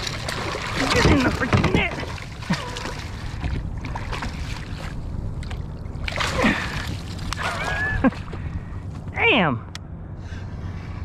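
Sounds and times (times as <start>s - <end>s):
wind rumbling on microphone: 0.0s - 9.2s
faint water: 0.0s - 9.6s.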